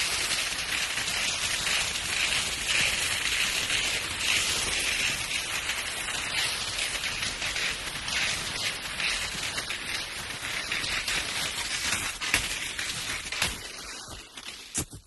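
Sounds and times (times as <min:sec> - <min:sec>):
skis swishing on snow: 0:00.0 - 0:15.0.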